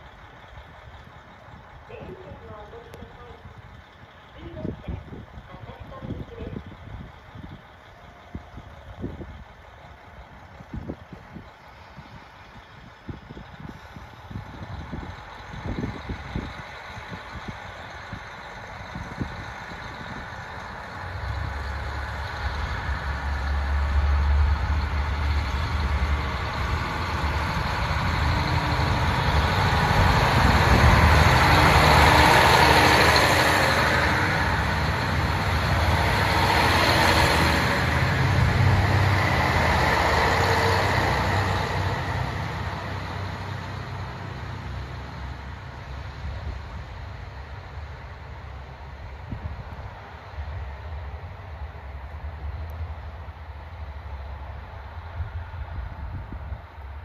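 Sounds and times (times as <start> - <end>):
diesel engine drone: 0.0 - 57.0
train wheels rumbling on rails: 0.0 - 57.0.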